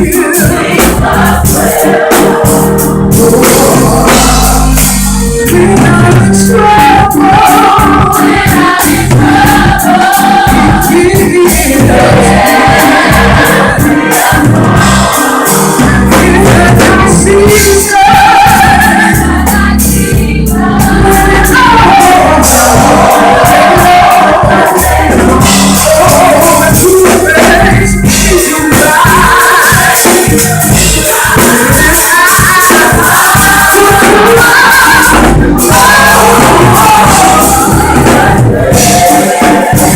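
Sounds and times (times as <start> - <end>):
bass: 0.0 - 29.4, 30.0 - 39.9
steady drum beat: 0.0 - 39.9
vocal group singing in harmony: 0.0 - 39.9.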